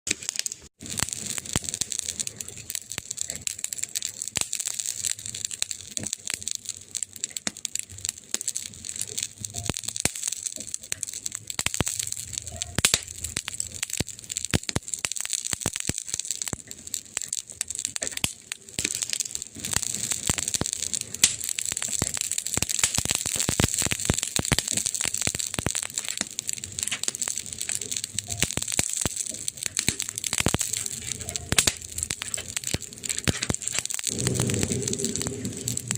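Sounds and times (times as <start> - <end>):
wood fire crackling and popping: 0.1 - 35.9.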